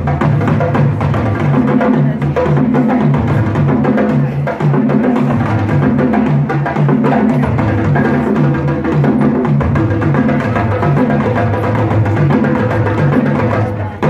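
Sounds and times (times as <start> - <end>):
dance music with percussion beat: 0.0 - 14.0.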